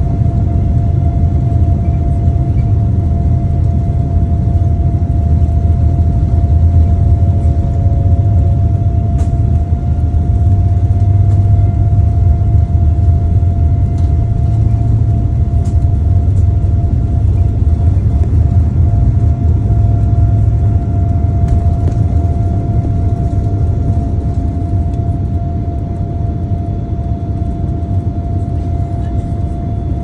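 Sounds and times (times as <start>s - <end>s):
aircraft cabin engine rumble: 0.0s - 30.0s
constant hum tone: 0.0s - 30.0s.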